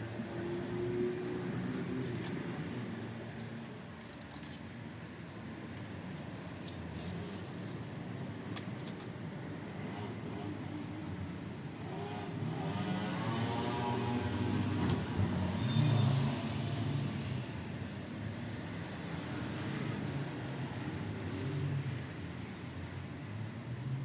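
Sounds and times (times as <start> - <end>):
paint roller on metal panels: 0.0 - 24.0.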